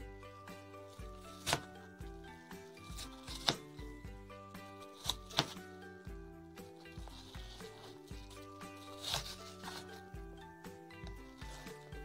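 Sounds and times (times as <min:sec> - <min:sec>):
background music with low beat: 0:00.0 - 0:12.0.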